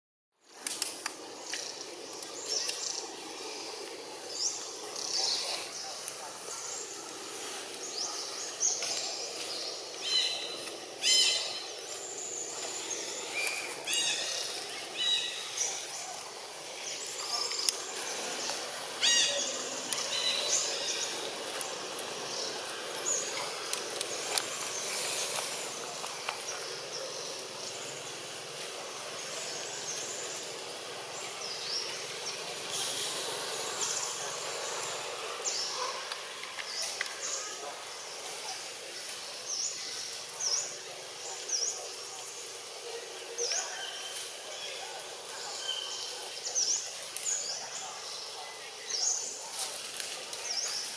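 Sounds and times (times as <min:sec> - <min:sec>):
steady high outdoor hiss: 0:00.4 - 0:50.9.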